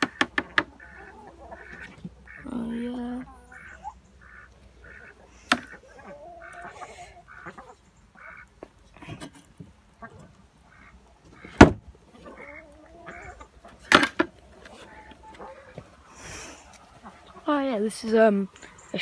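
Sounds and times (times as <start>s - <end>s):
chickens calling: 0.0s - 19.0s.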